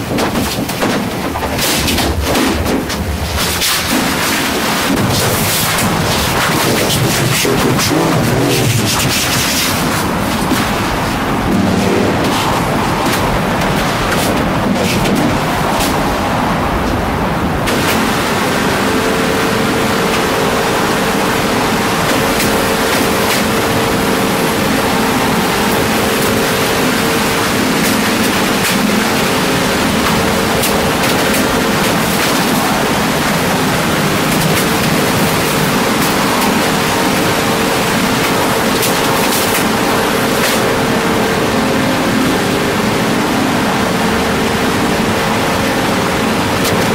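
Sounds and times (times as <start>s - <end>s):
loud steady hiss: 0.0s - 46.9s
printer motors humming: 0.0s - 46.9s.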